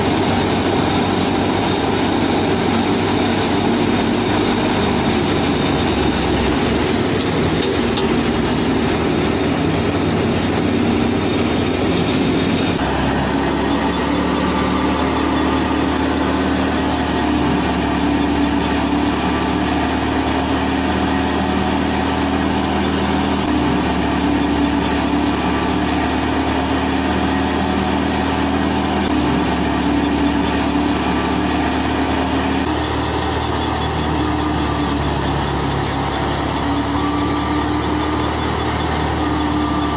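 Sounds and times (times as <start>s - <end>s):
small motor droning: 0.0s - 39.9s.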